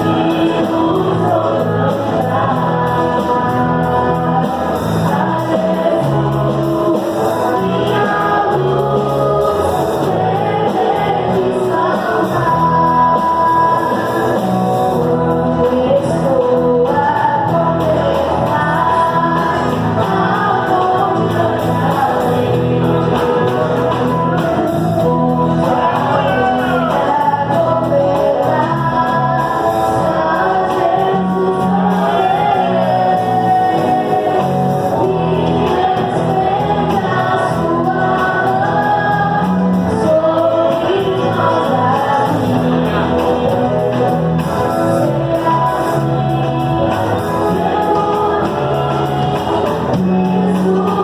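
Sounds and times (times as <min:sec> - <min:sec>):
instrumental backing with bass: 0:00.0 - 0:51.0
person singing: 0:00.0 - 0:51.0.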